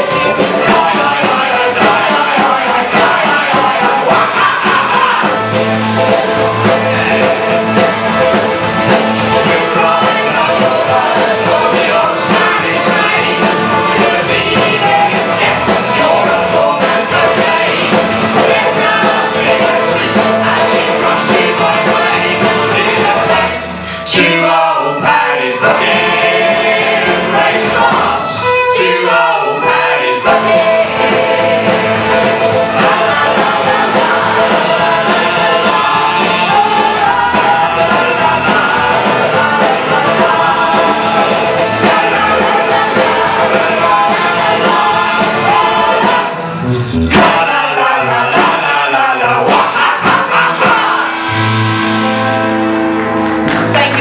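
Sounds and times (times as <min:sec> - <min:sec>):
several voices singing together: 0:00.0 - 0:51.6
folk band playing: 0:00.0 - 0:54.0.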